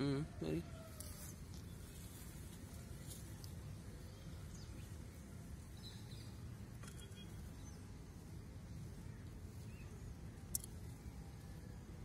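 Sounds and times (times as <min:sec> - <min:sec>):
low rumble of wind: 0:00.0 - 0:12.0
faint bird chirps: 0:00.4 - 0:12.0.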